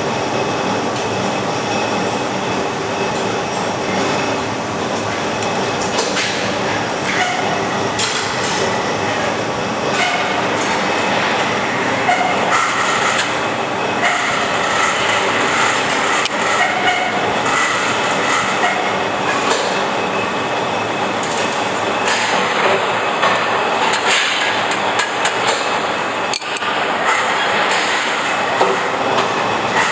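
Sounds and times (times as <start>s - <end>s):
train rumbling on rails: 0.0s - 29.9s.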